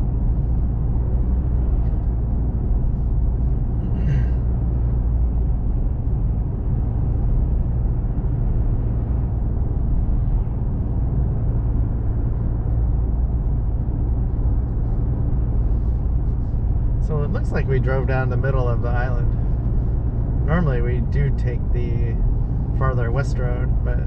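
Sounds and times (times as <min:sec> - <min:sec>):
vehicle road and engine rumble: 0:00.0 - 0:24.0.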